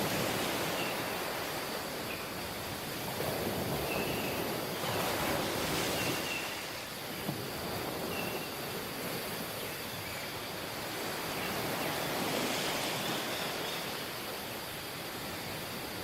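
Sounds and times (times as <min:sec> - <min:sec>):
waves rushing onto beach: 0:00.0 - 0:16.0.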